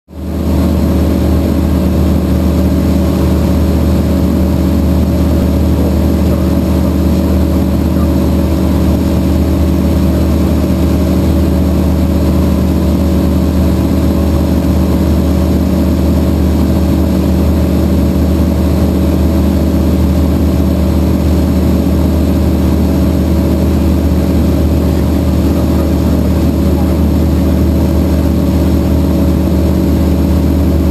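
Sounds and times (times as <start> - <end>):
aircraft engine and propeller droning: 0.1 - 30.9.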